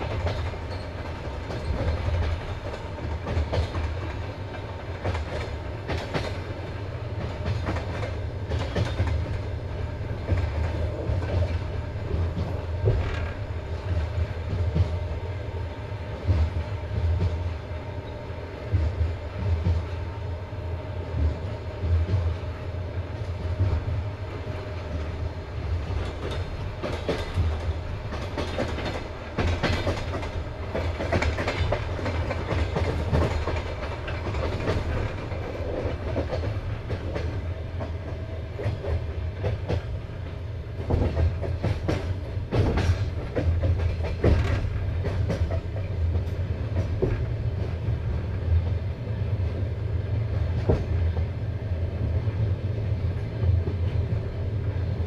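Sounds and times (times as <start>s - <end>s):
clickety-clack over rail joints: 0.0s - 20.4s, 21.0s - 55.0s
train wheels rumbling: 0.0s - 55.0s.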